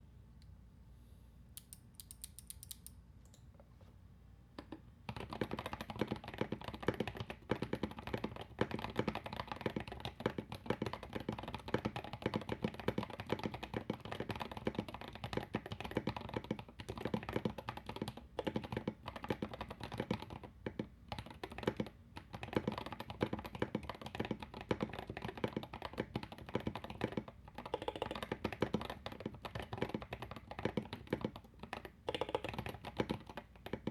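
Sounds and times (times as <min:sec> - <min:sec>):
fast mechanical keyboard typing: 0:05.1 - 0:33.9.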